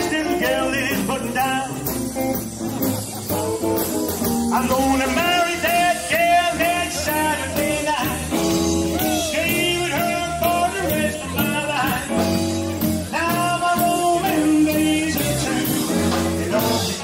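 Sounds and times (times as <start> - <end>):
person singing: 0.0 - 2.3, 4.4 - 17.0
guitar: 0.0 - 17.0
steady drum beat: 0.0 - 17.0.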